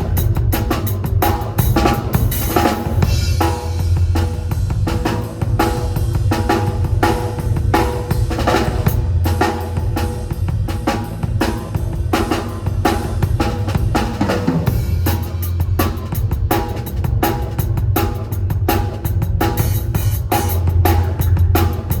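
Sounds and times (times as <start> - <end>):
drum kit fast groove: 0.0 - 22.0.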